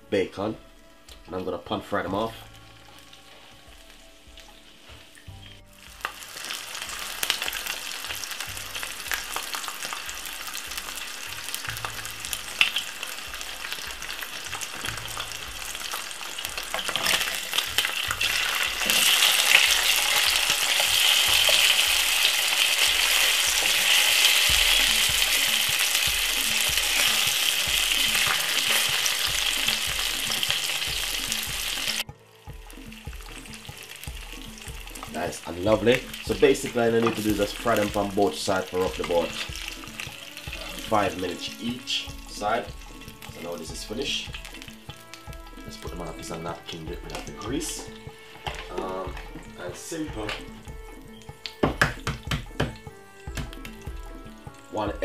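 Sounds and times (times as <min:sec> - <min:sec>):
bacon sizzling in a frying pan: 0:02.0 - 0:55.0.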